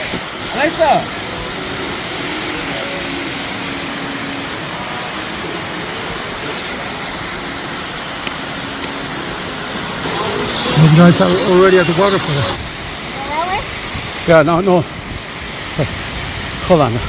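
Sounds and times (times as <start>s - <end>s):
distant voices: 0.0s - 17.0s
waterfall rushing: 0.0s - 17.0s.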